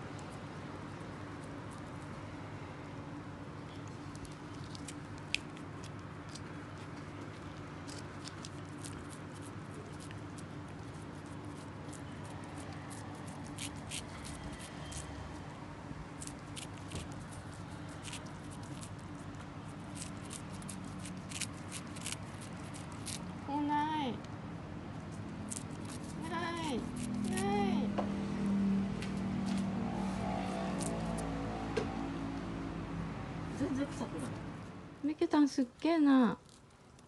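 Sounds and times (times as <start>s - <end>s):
steady low hum: 0.0s - 35.1s.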